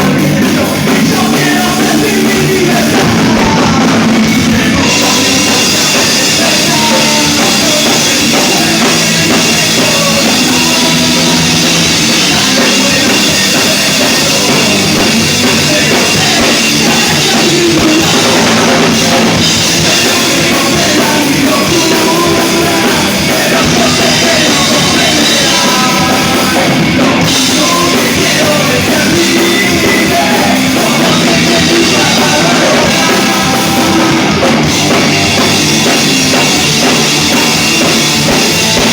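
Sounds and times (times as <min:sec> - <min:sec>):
drum kit: 0:00.0 - 0:38.9
rock band playing live: 0:00.0 - 0:38.9.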